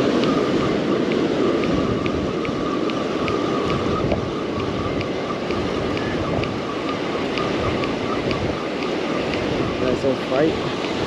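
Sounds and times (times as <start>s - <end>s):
fishing reel ticking: 0.0s - 11.0s
surf washing: 0.0s - 11.0s
wind on microphone: 0.0s - 11.0s.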